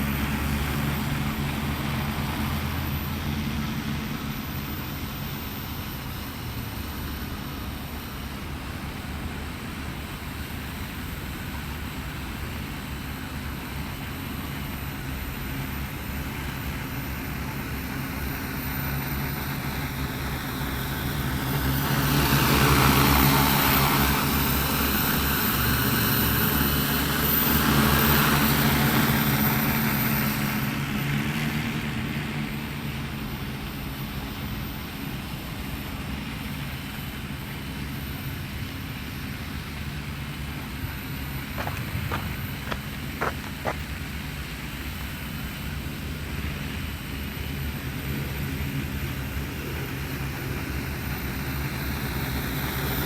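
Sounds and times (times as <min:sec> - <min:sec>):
drone propellers humming: 0:00.0 - 0:53.0.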